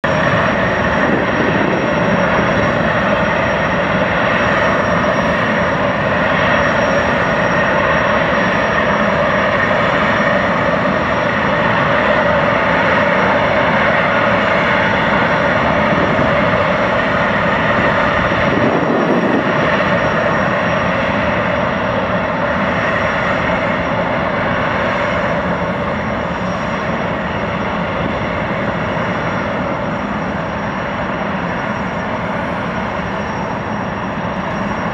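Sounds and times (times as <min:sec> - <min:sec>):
gas turbines whining: 0:00.0 - 0:34.9.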